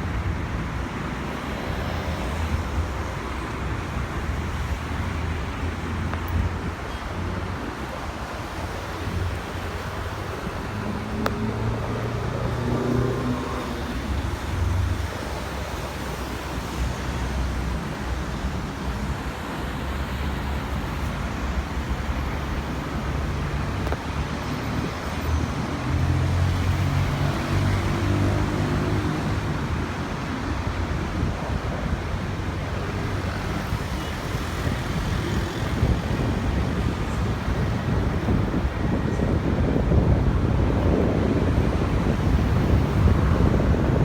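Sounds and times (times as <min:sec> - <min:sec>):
low hum of passing engines: 0:00.0 - 0:18.6, 0:19.3 - 0:44.0
engine and traffic noise: 0:00.0 - 0:44.0
wind on microphone: 0:00.0 - 0:44.0.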